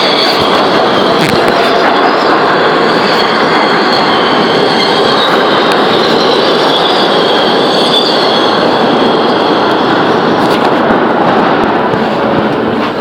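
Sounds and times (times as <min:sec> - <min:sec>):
steel wheels squealing on rails: 0:00.0 - 0:13.0
subway train rumbling: 0:00.0 - 0:13.0.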